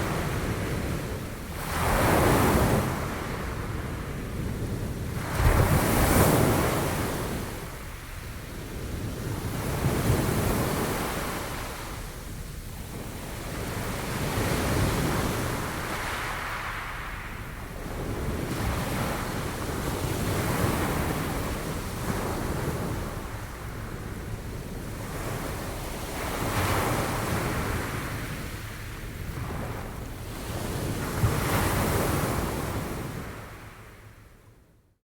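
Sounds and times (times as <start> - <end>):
sea waves breaking on shore: 0.0 - 34.0
wind rumble on microphone: 0.0 - 34.8.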